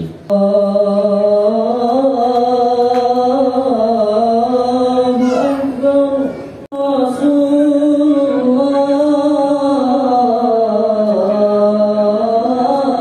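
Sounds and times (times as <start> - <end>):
man chanting into microphone: 0.0 - 13.0.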